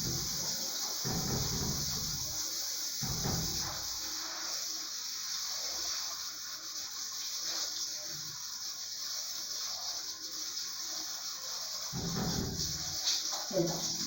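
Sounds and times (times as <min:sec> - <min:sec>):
shower water spraying: 0:00.0 - 0:14.0.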